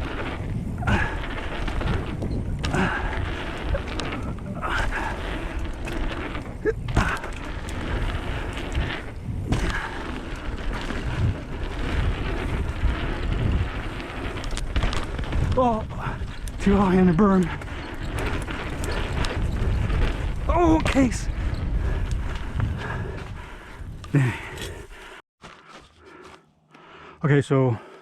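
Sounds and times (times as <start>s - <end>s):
tyres rumbling over dirt: 0.0s - 24.7s
wind buffeting microphone: 0.0s - 25.0s.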